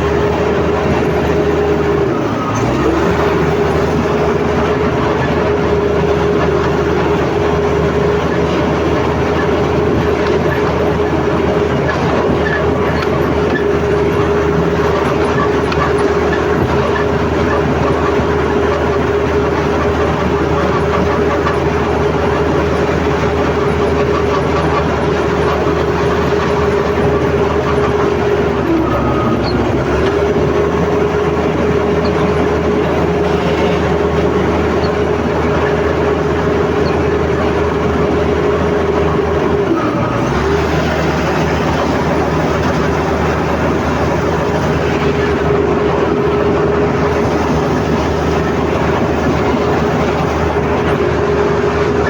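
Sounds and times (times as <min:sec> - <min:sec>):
bulldozer engine whining: 0:00.0 - 0:52.0
steel tracks clattering: 0:00.0 - 0:52.0.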